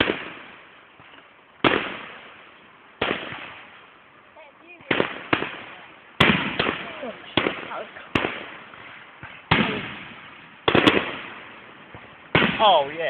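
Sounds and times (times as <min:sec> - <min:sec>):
fireworks bangs with rolling echo: 0:00.0 - 0:04.0, 0:04.6 - 0:13.0.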